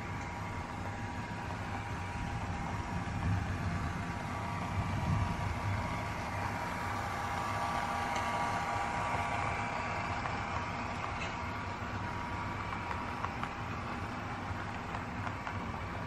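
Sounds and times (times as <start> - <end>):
model train humming and whining: 0.0 - 16.0.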